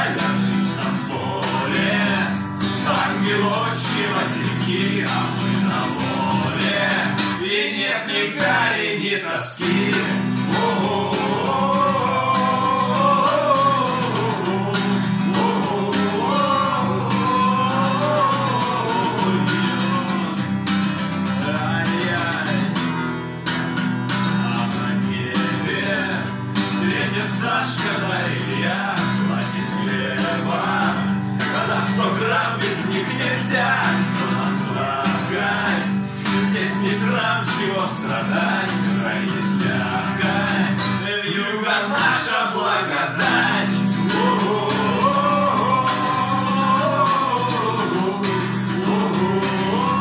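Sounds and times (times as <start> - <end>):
man singing: 0.0 - 23.1, 24.1 - 50.0
acoustic guitar strumming: 0.0 - 50.0.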